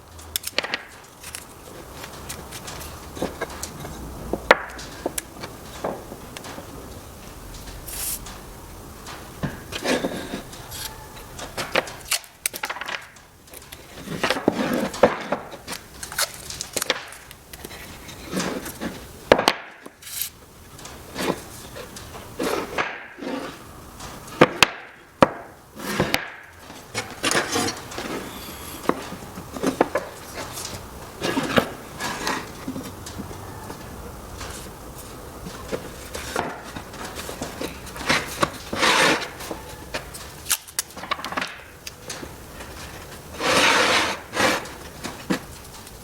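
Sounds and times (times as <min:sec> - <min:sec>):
wood pieces knocking and clattering: 0:00.3 - 0:06.7, 0:09.0 - 0:46.0.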